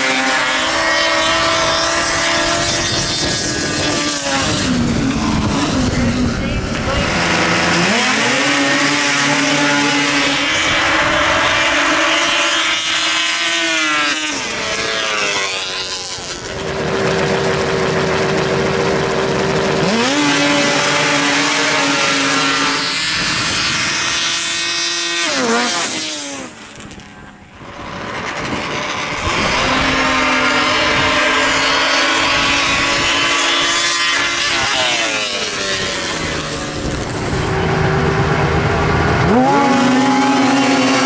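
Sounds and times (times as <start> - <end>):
snowmobile engine at full throttle: 0.0 - 41.0
snowmobile steady high engine note: 0.0 - 41.0.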